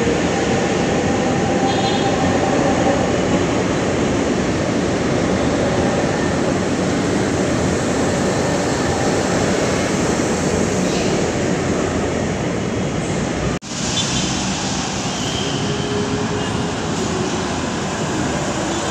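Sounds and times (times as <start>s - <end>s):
train wheels rushing on rails: 0.0s - 18.9s.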